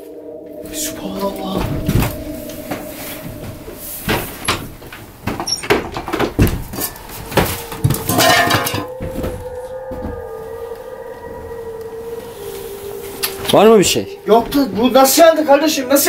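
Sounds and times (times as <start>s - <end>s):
steady droning tone: 0.0s - 16.0s.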